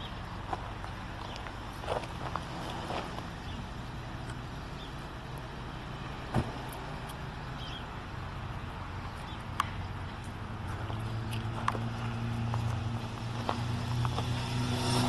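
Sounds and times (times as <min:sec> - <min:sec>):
diesel engine idling: 0:00.0 - 0:14.3.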